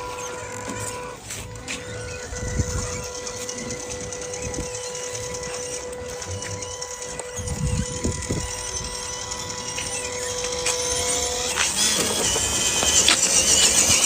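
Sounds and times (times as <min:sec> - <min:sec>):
small motor whining: 0:00.0 - 0:14.0.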